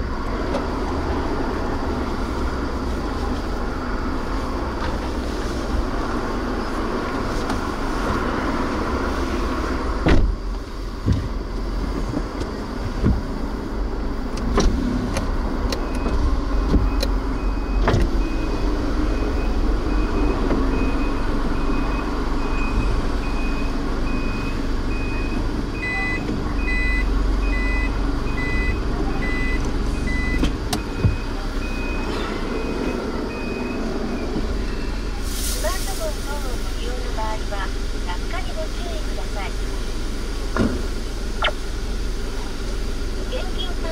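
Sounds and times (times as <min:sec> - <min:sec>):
car engine and cabin rumble: 0:00.0 - 0:43.9.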